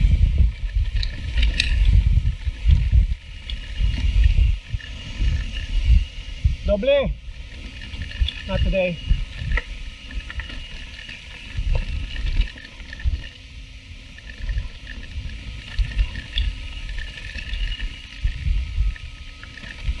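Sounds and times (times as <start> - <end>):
bike tyres on dirt: 0.0 - 20.0
wind buffeting microphone: 0.0 - 20.0.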